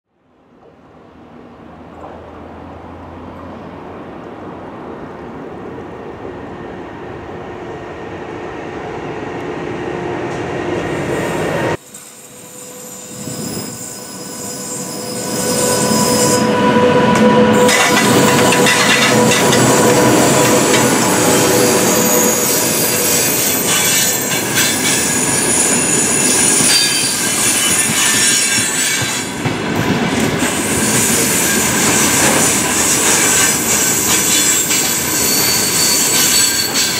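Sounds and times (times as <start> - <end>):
freight train passing: 0.2 - 36.9
train wheels whining: 6.2 - 36.9.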